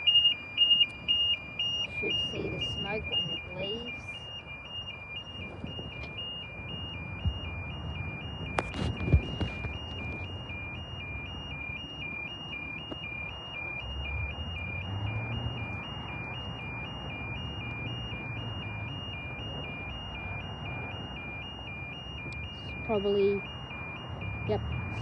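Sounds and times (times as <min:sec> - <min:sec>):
level crossing alarm: 0:00.0 - 0:25.0.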